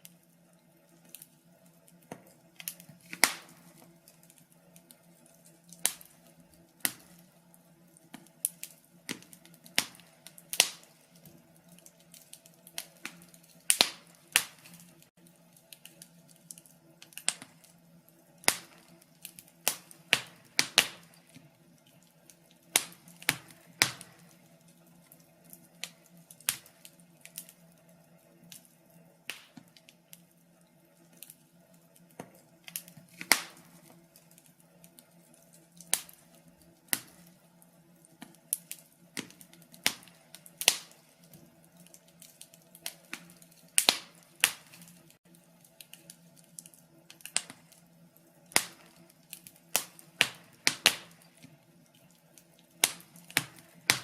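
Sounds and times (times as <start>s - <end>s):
faint low background hum: 0.0s - 54.0s
wood fire crackling: 0.0s - 54.0s.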